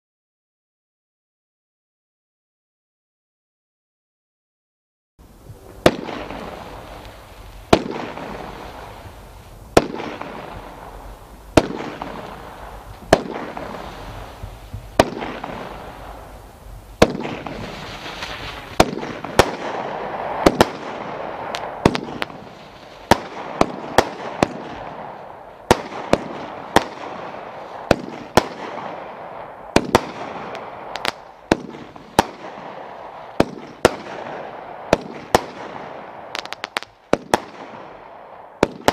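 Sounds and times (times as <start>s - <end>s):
fireworks hiss: 5.2s - 38.0s
fireworks bangs: 5.4s - 38.9s.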